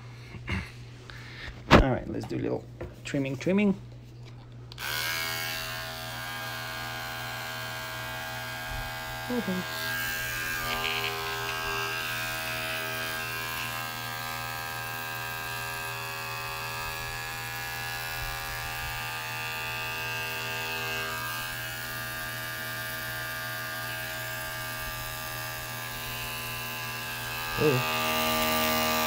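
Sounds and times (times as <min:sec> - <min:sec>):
electric pet clipper buzzing: 0:04.7 - 0:29.0.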